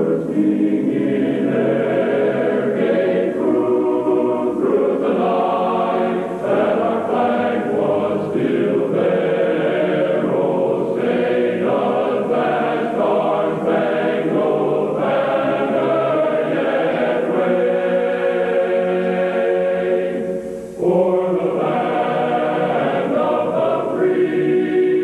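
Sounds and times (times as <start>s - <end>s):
choir singing held chords: 0.0s - 25.0s.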